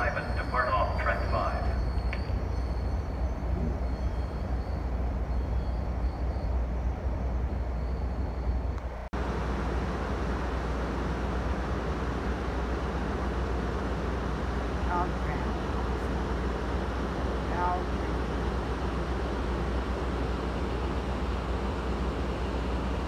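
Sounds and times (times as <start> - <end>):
diesel locomotive idling hum: 0.0 - 23.0
train pulling away rumble: 0.0 - 23.0.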